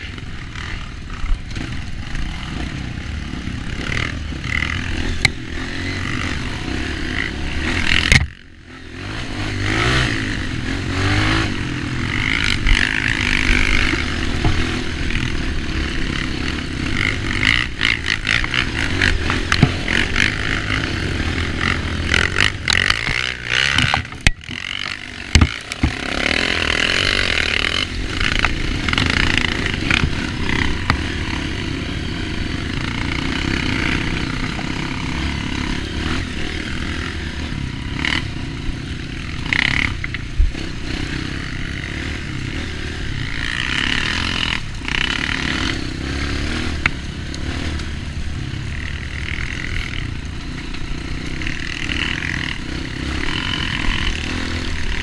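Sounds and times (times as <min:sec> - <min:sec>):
bike rattling and scraping: 0:00.0 - 0:55.0
dirt bike engine running: 0:00.0 - 0:55.0.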